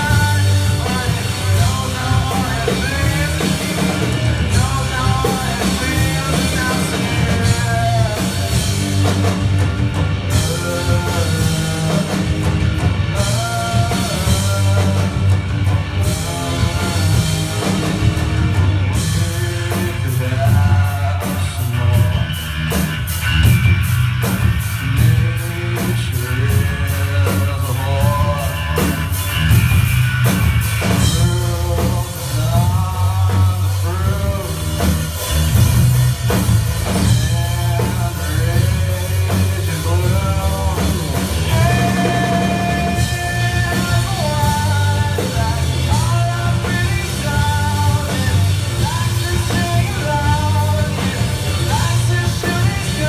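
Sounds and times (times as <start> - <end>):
person singing: 0.0 - 9.3, 10.3 - 22.8, 24.7 - 29.3, 30.8 - 35.6, 36.9 - 53.0
drums beating on cymbals: 0.0 - 53.0
live rock band playing: 0.0 - 53.0.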